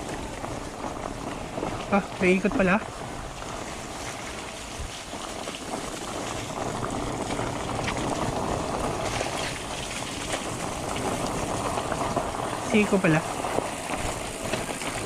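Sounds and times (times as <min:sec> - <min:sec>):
bike tyres rolling on dirt: 0:00.0 - 0:15.0
bike clicks and rattles: 0:02.8 - 0:15.0.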